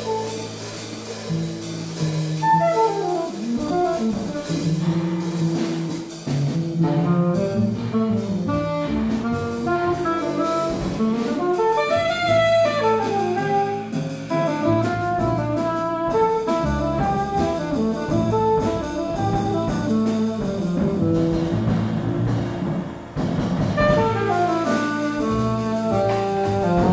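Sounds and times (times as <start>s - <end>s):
double bass: 0.0s - 26.9s
drum kit: 0.0s - 26.9s
saxophones playing jazz: 2.4s - 22.0s, 23.8s - 26.9s.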